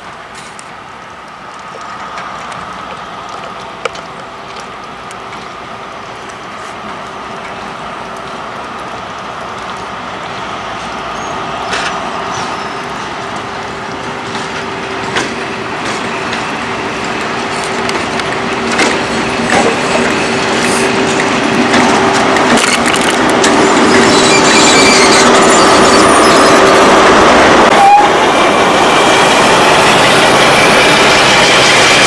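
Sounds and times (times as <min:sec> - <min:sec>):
train hum: 0:00.0 - 0:32.0
wheels clicking on rails: 0:00.0 - 0:32.0.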